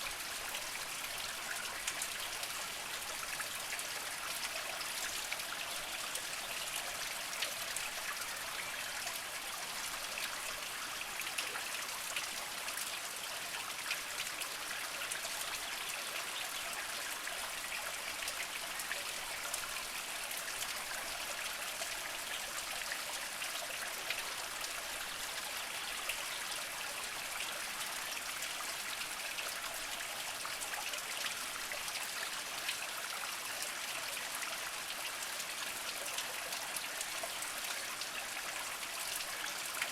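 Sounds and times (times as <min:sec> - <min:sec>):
spring water trickling over rocks: 0:00.0 - 0:39.9.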